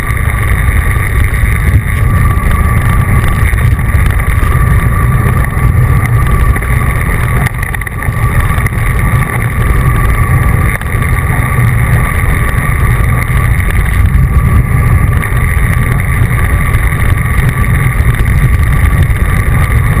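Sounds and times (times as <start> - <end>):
thin steady hum: 0.0 - 20.0
wind rushing over microphone: 0.0 - 20.0.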